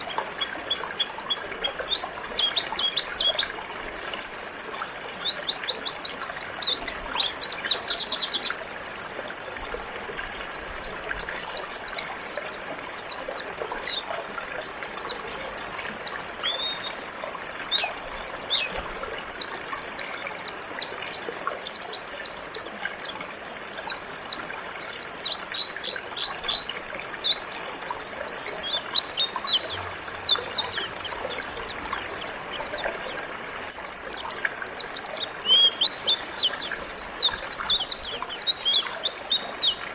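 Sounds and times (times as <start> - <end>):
birds chirping: 0.0 - 39.9
river water rushing: 0.0 - 39.9.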